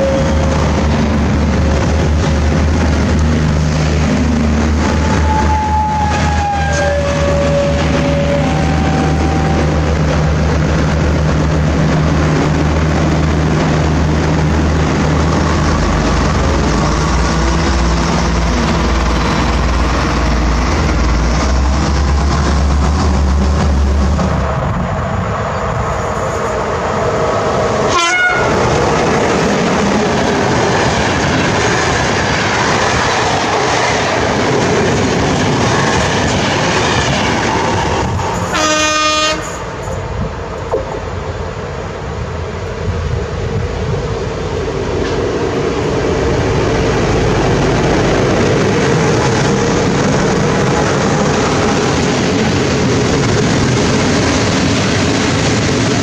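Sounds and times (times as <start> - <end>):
train cars rolling on rails: 0.0 - 56.0
train engine rumble: 0.0 - 56.0.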